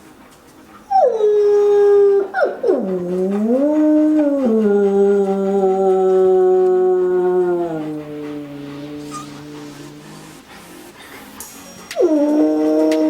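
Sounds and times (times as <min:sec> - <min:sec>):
long howling: 0:00.9 - 0:10.6, 0:11.9 - 0:13.0.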